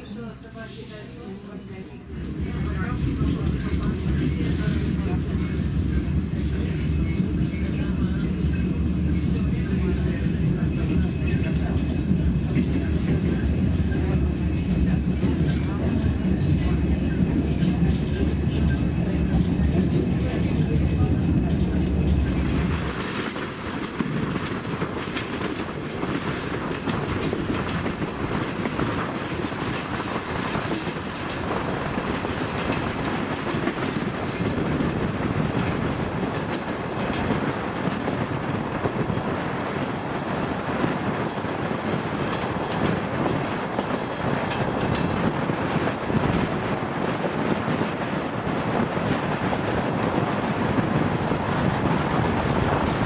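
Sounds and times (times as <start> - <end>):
train rumbling in motion: 0.0 - 53.0
wheels clacking over rail joints: 2.2 - 53.0.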